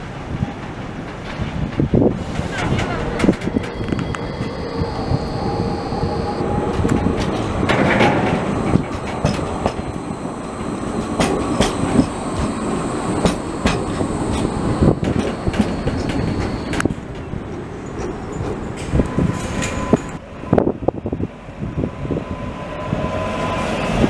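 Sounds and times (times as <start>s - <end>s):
wheels clicking on rails: 0.0s - 20.2s
tram rolling past: 0.0s - 24.0s.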